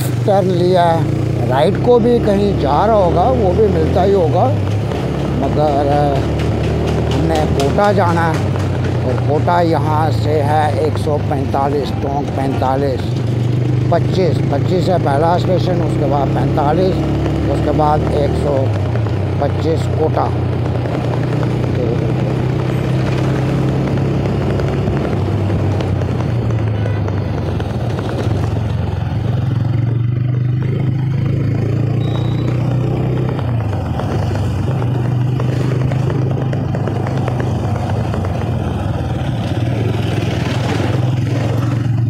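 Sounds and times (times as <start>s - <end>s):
motorcycle engine running: 0.0s - 42.0s
road and wind noise: 0.0s - 42.0s.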